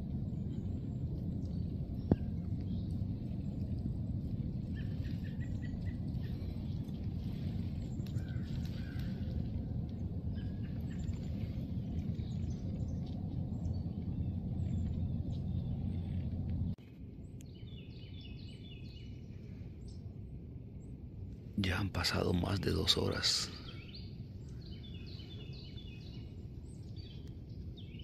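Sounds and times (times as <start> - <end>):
birds chirping: 0.0 - 28.0
low rumble: 0.0 - 28.0.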